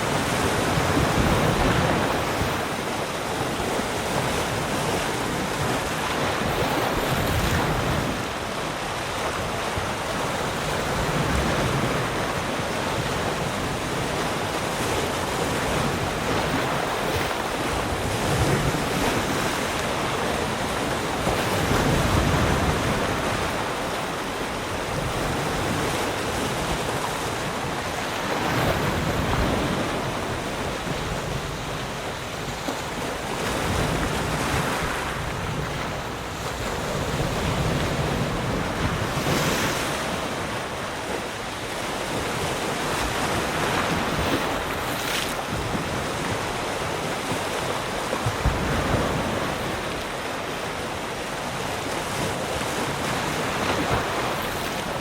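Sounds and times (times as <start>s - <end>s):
wind noise on microphone: 0.0s - 50.2s
continuous rush of water: 0.0s - 55.0s
waves breaking and washing in: 0.0s - 55.0s.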